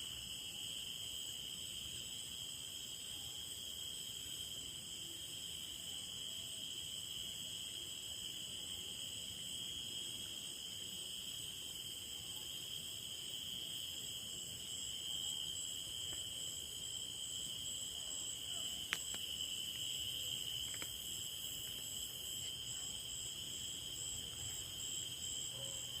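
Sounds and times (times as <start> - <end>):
insects chirping drones: 0.0 - 26.0.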